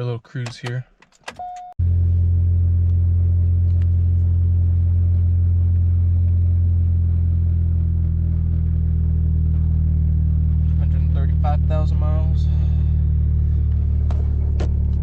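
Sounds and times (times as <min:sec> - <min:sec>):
car engine droning at cruise: 0:01.8 - 0:15.0
road rumble: 0:01.8 - 0:15.0.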